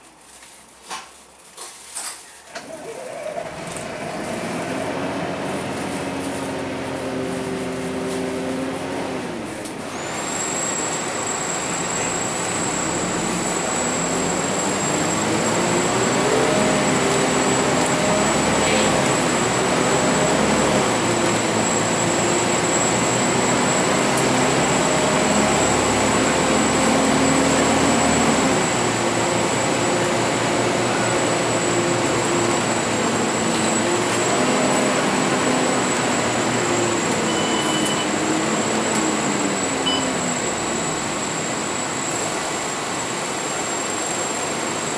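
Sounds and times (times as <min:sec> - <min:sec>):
bus engine accelerating: 0:02.5 - 0:44.9
high-pitched whine: 0:02.8 - 0:44.9.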